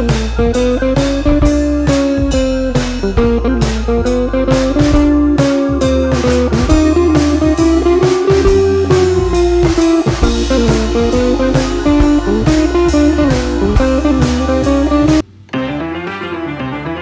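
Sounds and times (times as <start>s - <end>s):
guitar over drum beat: 0.0s - 17.0s.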